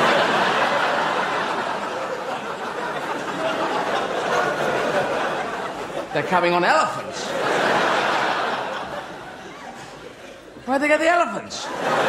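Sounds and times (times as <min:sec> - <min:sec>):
audience laughing: 0:00.0 - 0:10.6, 0:11.5 - 0:12.0.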